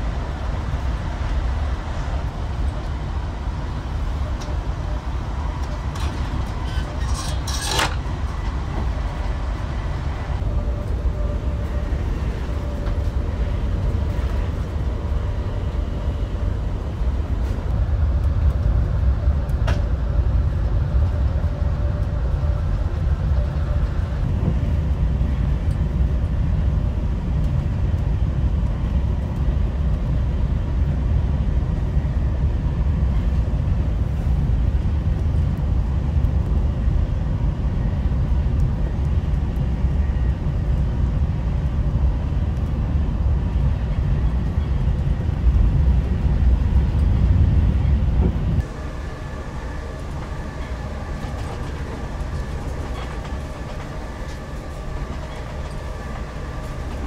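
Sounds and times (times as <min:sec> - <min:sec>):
train interior low rumble: 0:00.0 - 0:57.0.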